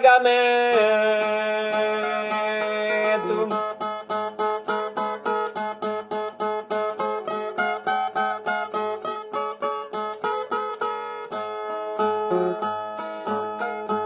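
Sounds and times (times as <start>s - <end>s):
plucked ten-string viola: 0.0s - 14.0s.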